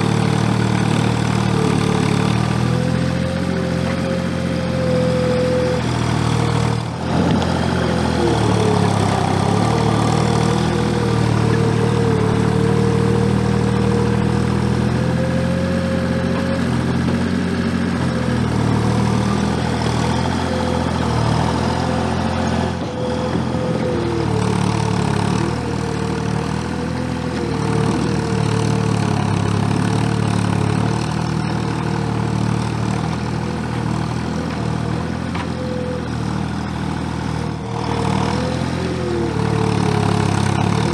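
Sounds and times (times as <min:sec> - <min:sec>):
diesel engine running under work: 0:00.0 - 0:40.9.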